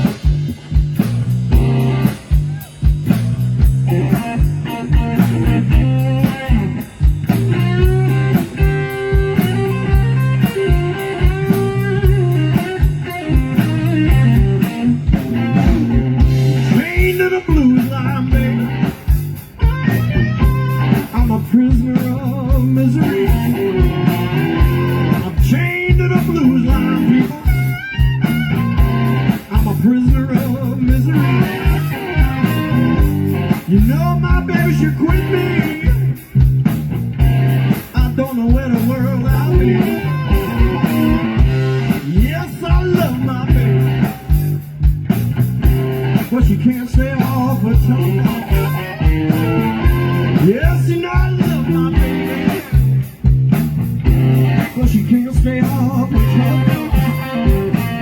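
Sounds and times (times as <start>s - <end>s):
bass guitar: 0.0s - 58.0s
drum beat: 0.0s - 58.0s
lead guitar: 0.0s - 58.0s.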